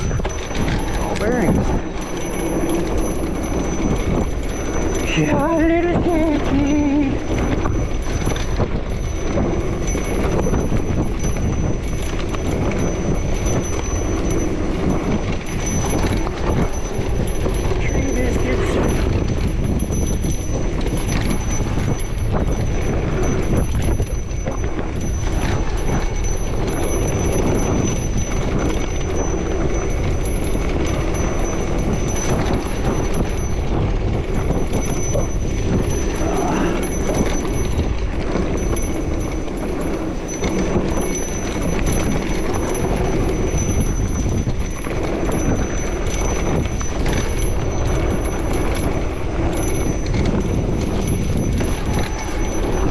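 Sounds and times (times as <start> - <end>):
bike clattering over bumps: 0.0 - 52.9
tyre and wind noise: 0.0 - 52.9.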